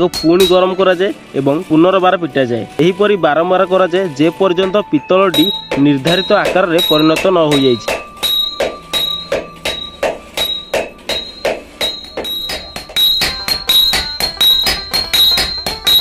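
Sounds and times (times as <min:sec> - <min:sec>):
hammers ringing on hot metal: 0:00.0 - 0:01.8, 0:03.8 - 0:16.0.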